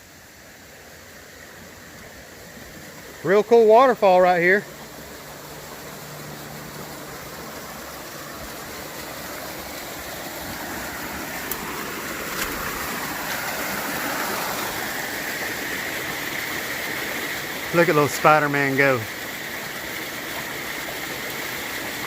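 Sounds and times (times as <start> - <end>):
small waterfall rushing and splashing: 0.0 - 22.0.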